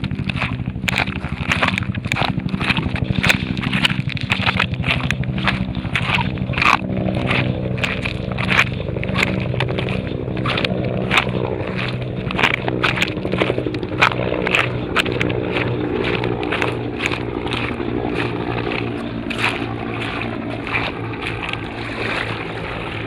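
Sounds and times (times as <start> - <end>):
footsteps crunching on gravel: 0.0 - 23.0
steady low hum: 0.0 - 23.0.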